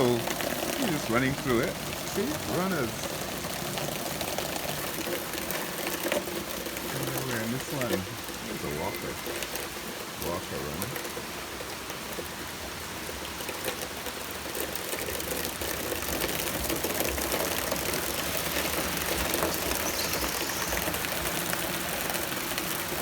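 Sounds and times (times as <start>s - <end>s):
rain hissing: 0.0s - 23.0s.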